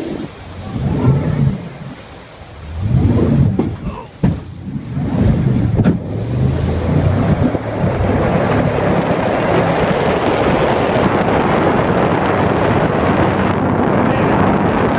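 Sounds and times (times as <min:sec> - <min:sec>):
jet boat engine: 0:00.0 - 0:14.9
water noise: 0:00.0 - 0:14.9
wind buffeting microphone: 0:00.0 - 0:14.9.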